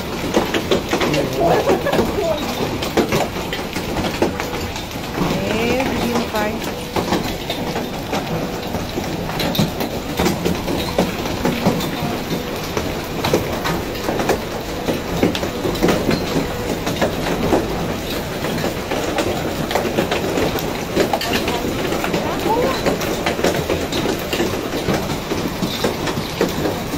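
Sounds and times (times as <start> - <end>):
hailstones clattering: 0.0 - 26.9.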